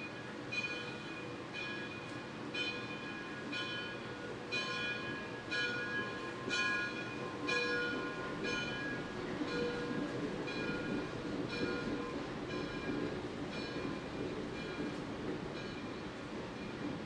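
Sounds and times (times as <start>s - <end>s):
locomotive bell ringing: 0.0s - 16.9s
low rumble of train: 0.0s - 17.0s.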